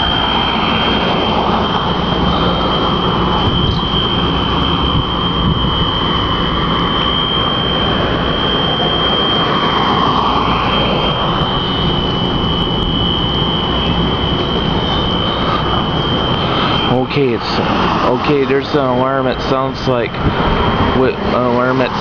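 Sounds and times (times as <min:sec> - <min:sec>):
high-pitched alarm tone: 0:00.0 - 0:22.0
loud rushing noise: 0:00.0 - 0:22.0.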